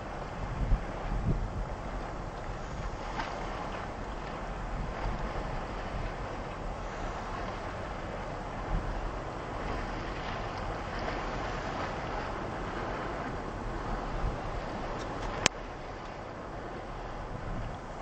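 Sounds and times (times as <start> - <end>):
water noise: 0.0 - 18.0
wind buffeting microphone: 0.0 - 18.0.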